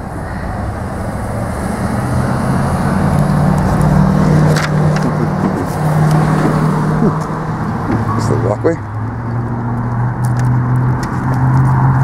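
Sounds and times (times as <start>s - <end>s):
street traffic noise: 0.0s - 12.0s
vehicle engine droning: 0.0s - 12.0s.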